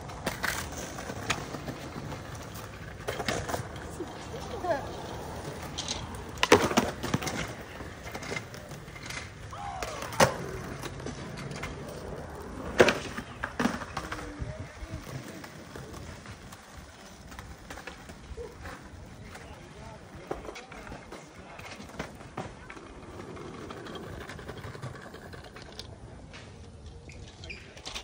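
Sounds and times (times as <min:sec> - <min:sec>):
skateboard clacking on ground: 0:00.0 - 0:28.0
skateboard wheels rolling: 0:00.0 - 0:28.0.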